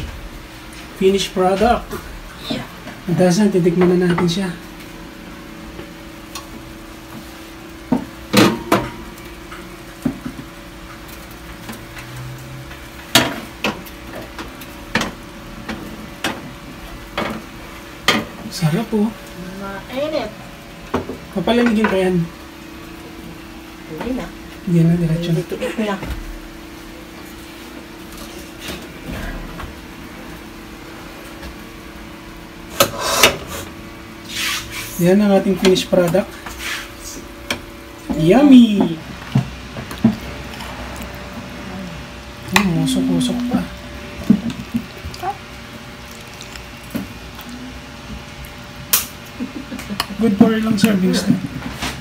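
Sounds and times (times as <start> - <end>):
steady hum: 0.0 - 52.0.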